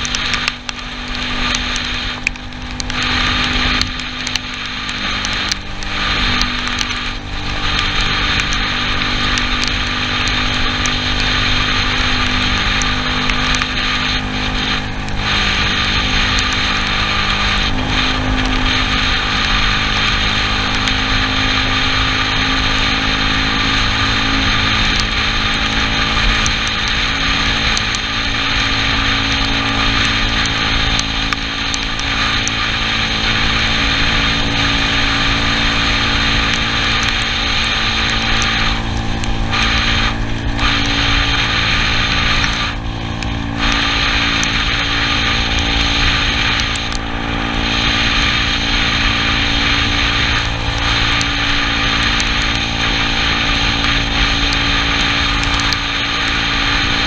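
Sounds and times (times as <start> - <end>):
scooter engine running: 0.0 - 57.0
wind and tyres on wet road: 0.0 - 57.0.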